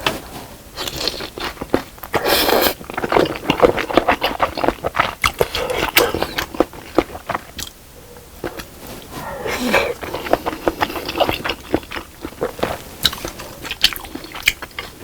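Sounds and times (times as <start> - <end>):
wet chewing clicks and smacks: 0.8 - 7.8, 9.9 - 15.0.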